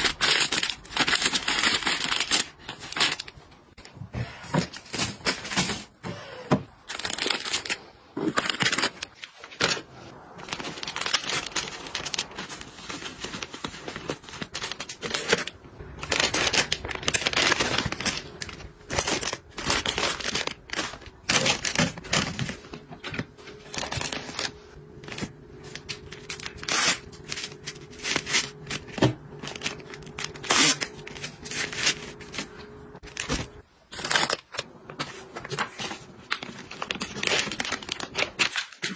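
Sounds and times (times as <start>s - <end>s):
plastic pack tearing: 0.0s - 3.4s, 6.9s - 38.9s
plastic wrapping crinkling: 0.0s - 3.9s, 6.9s - 38.9s.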